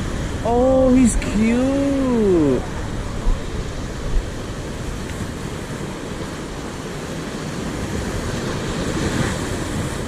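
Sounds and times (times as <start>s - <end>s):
surf washing against rocks: 0.0s - 10.0s
wind buffeting microphone: 0.0s - 10.0s.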